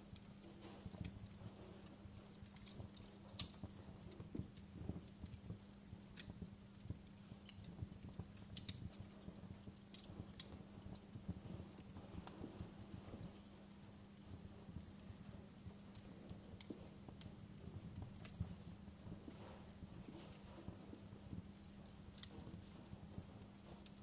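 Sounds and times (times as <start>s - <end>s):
faint low hum: 0.0s - 24.0s
wood fire crackling: 0.0s - 24.0s.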